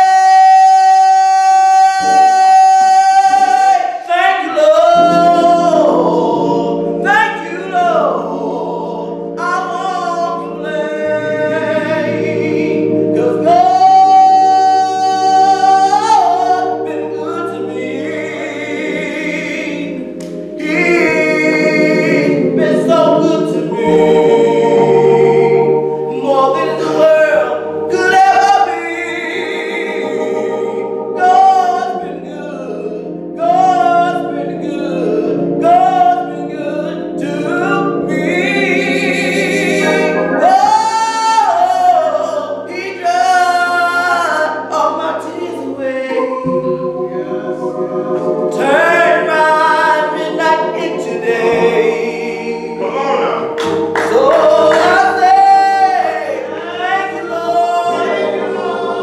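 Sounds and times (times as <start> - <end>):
held chords: 0.0 - 59.0
man singing gospel song: 0.0 - 59.0.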